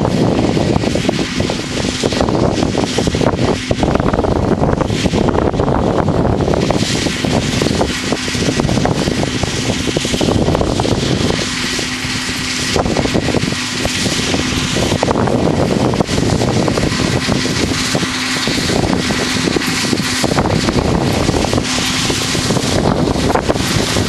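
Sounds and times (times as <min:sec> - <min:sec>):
faint combine harvester hum: 0:00.0 - 0:24.0
wind buffeting microphone: 0:00.0 - 0:24.0.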